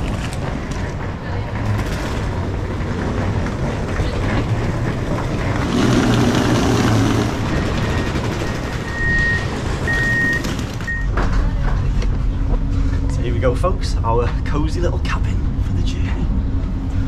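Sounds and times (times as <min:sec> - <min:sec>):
railway station rumble and hum: 0:00.0 - 0:17.0.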